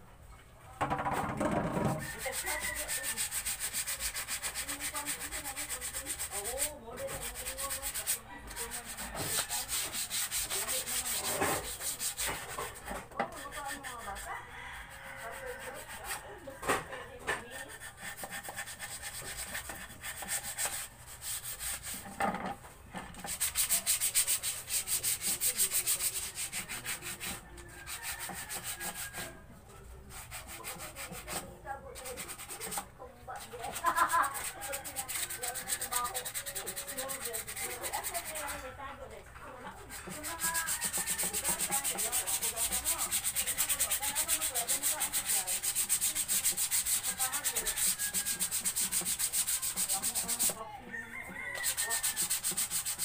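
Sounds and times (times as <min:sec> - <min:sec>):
sandpaper rubbing on wood: 0:02.0 - 0:16.2, 0:17.5 - 0:22.2, 0:23.1 - 0:29.4, 0:30.1 - 0:38.7, 0:39.8 - 0:50.6, 0:51.6 - 0:53.0.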